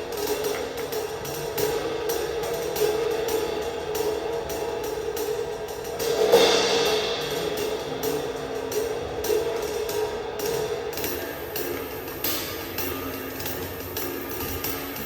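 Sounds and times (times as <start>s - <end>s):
drum kit strokes: 0.0s - 15.0s
cymbal crash: 1.1s - 15.0s.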